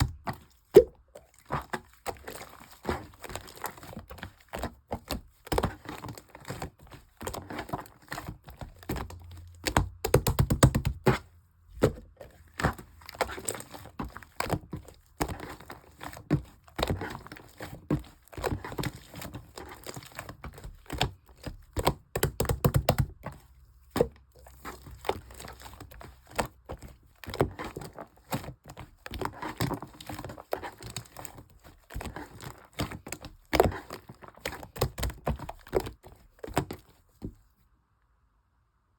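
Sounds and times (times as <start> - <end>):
slime squishing and crackling: 0.0 - 11.2, 11.8 - 36.9.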